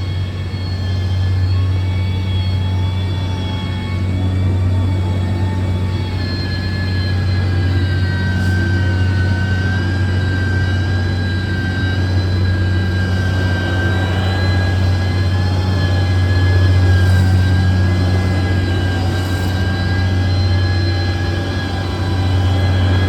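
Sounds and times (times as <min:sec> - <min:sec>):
diesel engine drone: 0:00.0 - 0:23.0
high machine whine: 0:00.0 - 0:23.0.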